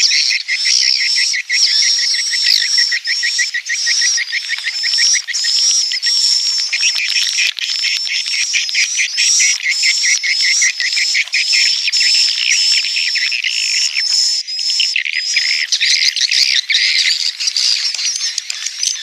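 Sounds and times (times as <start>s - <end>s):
high piping bird call: 0.0s - 19.0s
swiftlets twittering: 0.0s - 19.0s.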